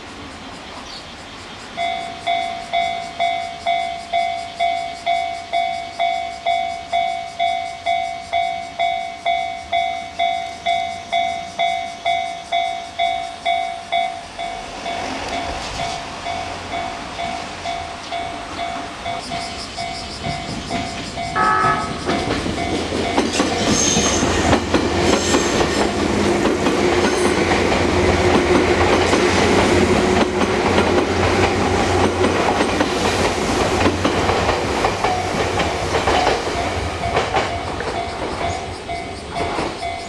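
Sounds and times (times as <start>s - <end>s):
train passing: 0.0s - 40.0s
level-crossing warning bell: 1.7s - 40.0s.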